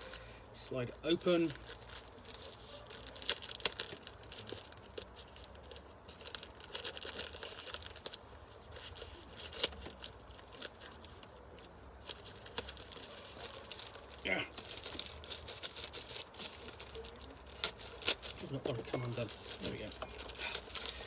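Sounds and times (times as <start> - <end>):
packaging tearing and crinkling: 0.0 - 0.3, 1.1 - 21.0.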